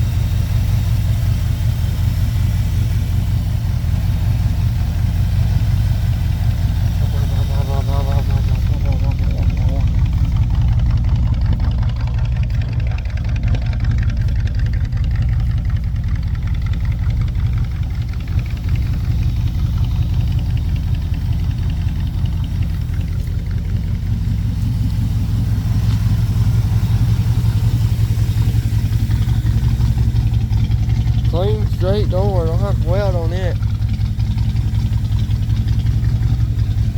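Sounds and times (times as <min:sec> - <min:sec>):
pickup engine idling: 0:00.0 - 0:36.9.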